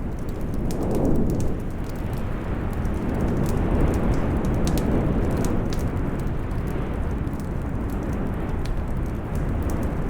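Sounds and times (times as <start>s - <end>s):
burning wood crackling: 0.0s - 10.0s.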